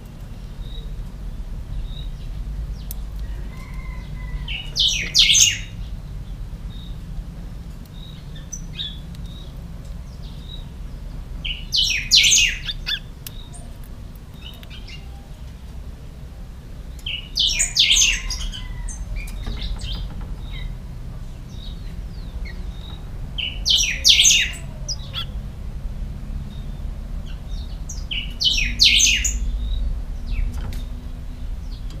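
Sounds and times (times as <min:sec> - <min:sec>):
caged bird singing loud phrases: 0:03.7 - 0:07.1, 0:07.9 - 0:31.9.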